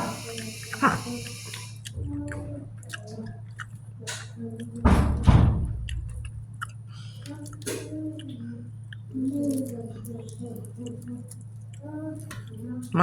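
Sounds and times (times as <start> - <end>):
close chewing with wet clicks: 0.0 - 4.8, 5.7 - 13.0
low steady hum: 0.0 - 13.0.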